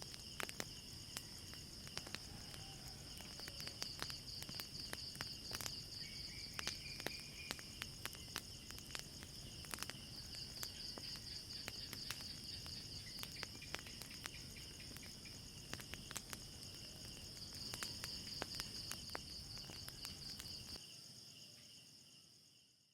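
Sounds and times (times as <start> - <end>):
fire crackling and popping: 0.0 - 20.8
crickets trilling: 0.0 - 22.9.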